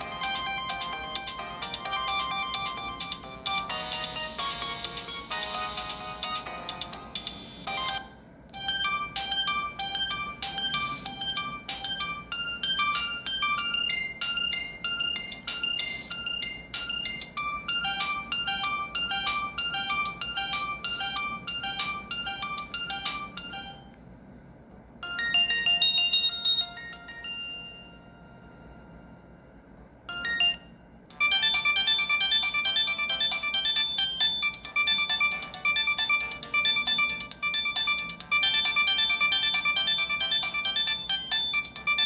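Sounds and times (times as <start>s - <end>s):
polyphonic phone ringtone: 0.0s - 23.9s, 25.0s - 29.2s, 30.1s - 42.0s.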